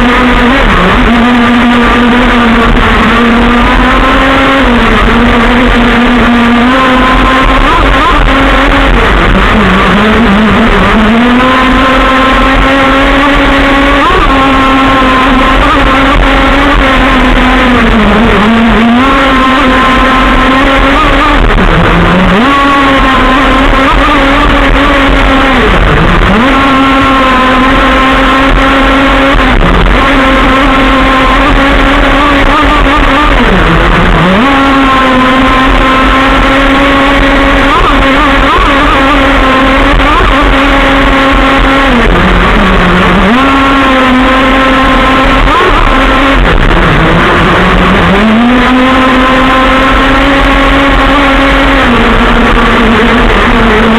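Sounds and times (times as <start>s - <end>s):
rc car engine revving: 0.0s - 53.9s.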